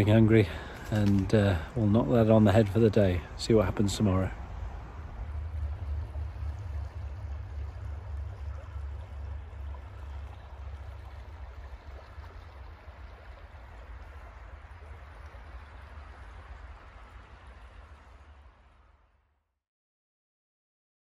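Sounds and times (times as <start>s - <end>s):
wind rumble on microphone: 0.0s - 18.8s
water rushing over stones: 0.0s - 19.0s.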